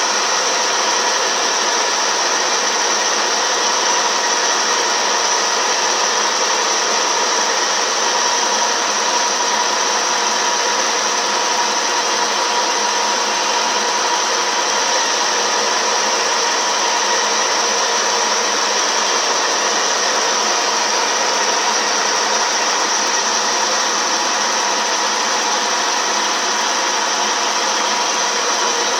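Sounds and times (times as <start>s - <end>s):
milling machine whining: 0.0s - 28.9s.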